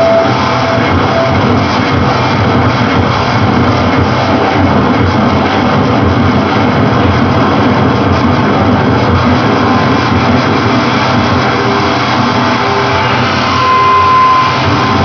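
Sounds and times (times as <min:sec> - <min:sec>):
electronic noise music: 0:00.0 - 0:15.0.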